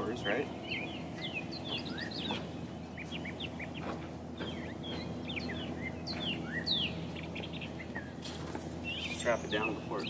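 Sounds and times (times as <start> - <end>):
birds chirping: 0.0 - 10.0
low hum: 0.0 - 10.0.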